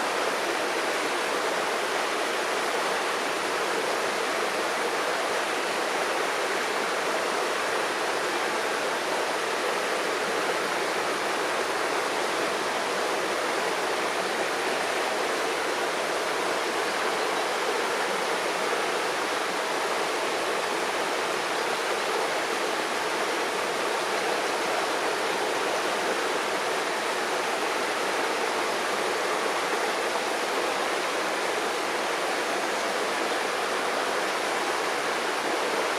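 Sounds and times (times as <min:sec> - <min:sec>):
river water rushing over stones: 0:00.0 - 0:35.9.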